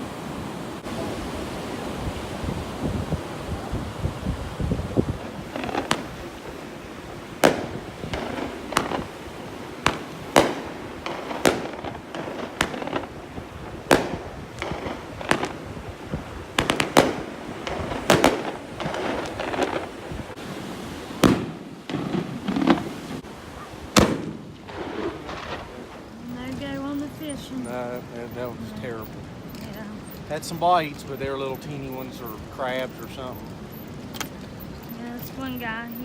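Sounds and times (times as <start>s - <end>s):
steady background wash: 0.0s - 36.0s
fireworks cracking: 2.8s - 36.0s.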